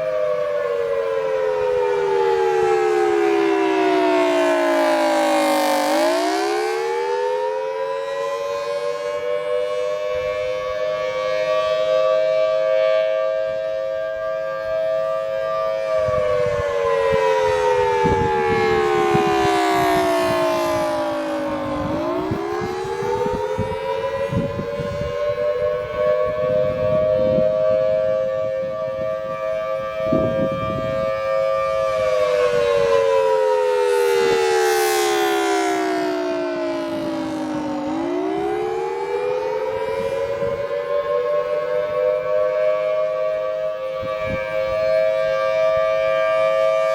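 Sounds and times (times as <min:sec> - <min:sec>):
warning siren wailing: 0:00.0 - 0:46.9.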